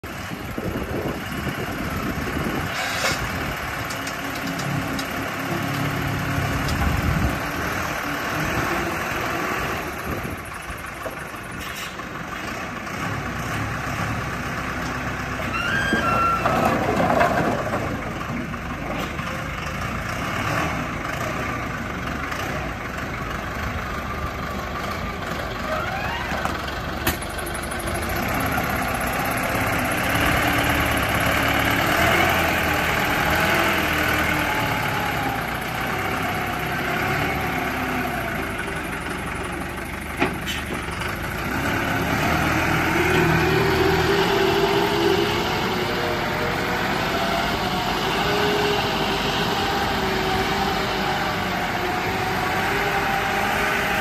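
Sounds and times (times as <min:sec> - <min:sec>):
wheel loader diesel engine: 0:00.0 - 0:54.0.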